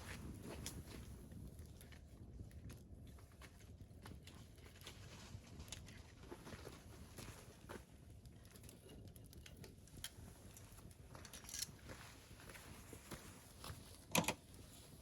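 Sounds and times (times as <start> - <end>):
campfire crackling quietly: 0.0 - 15.0.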